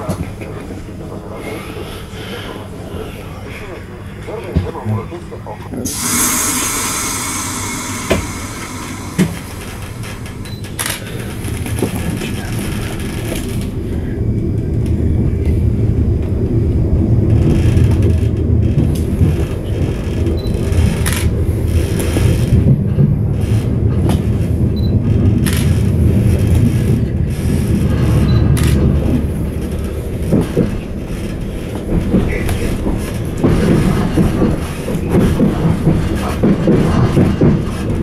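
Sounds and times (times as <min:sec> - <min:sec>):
train running rumble: 0:05.8 - 0:38.0.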